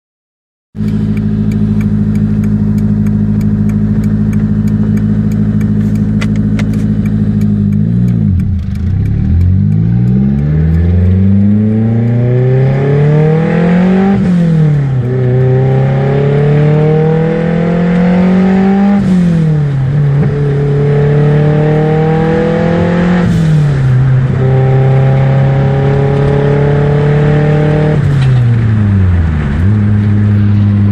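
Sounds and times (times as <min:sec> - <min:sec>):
car engine without exhaust: 0:00.8 - 0:30.9.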